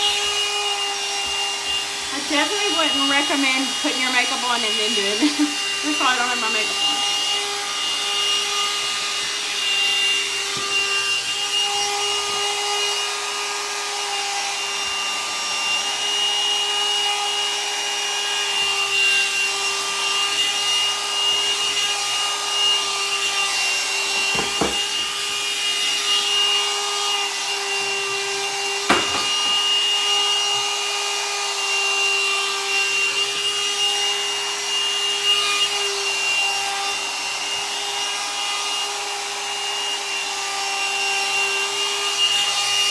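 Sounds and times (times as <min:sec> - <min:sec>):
hot-air dryer brush whine: 0:00.0 - 0:42.9.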